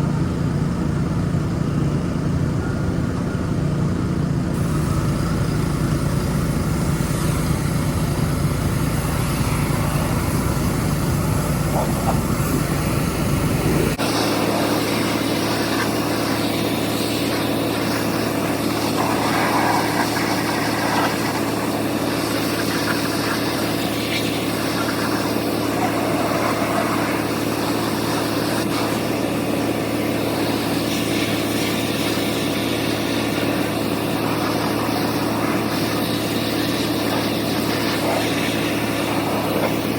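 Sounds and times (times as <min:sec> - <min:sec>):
pressure washer engine hum: 0:00.0 - 0:39.9
water spray hiss: 0:04.6 - 0:39.9.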